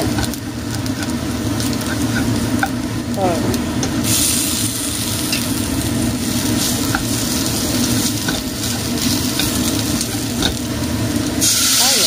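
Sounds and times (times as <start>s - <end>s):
food sizzling in a saucepan: 0.0s - 12.0s.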